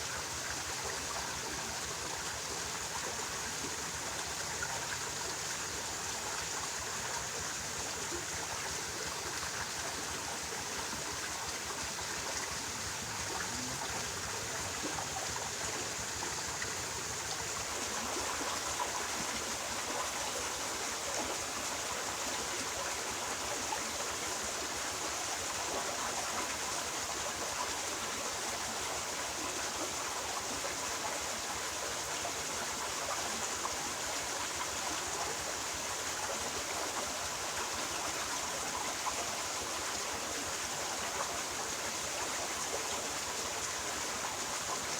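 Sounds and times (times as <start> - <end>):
flowing stream water: 0.0 - 44.9.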